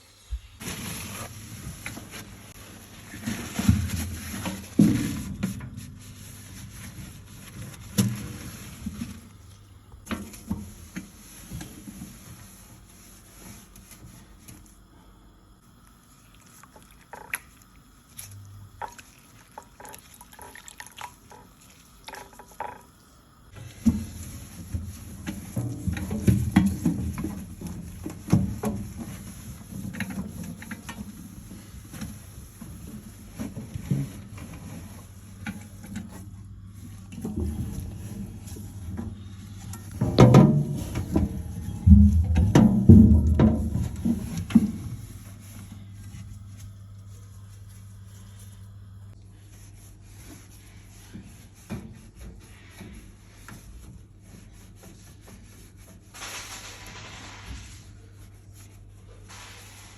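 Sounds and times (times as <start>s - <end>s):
low steady hum: 0.0s - 56.0s
scrubbing strokes on a surface: 0.6s - 14.9s, 15.7s - 22.8s, 23.6s - 48.7s, 49.3s - 59.9s.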